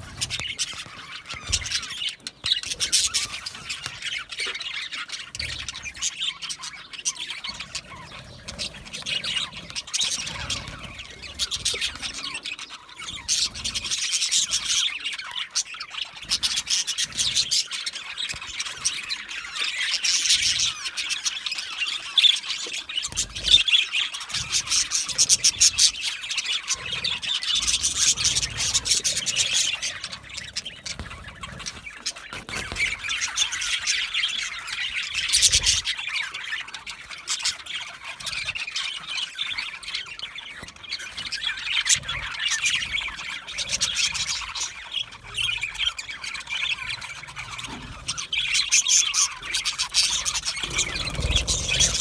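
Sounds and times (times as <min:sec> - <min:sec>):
budgerigars chattering: 0:00.0 - 0:52.0.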